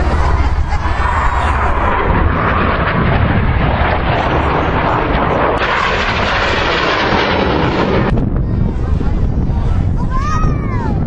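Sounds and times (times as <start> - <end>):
jet plane flying past: 0.0 - 10.0.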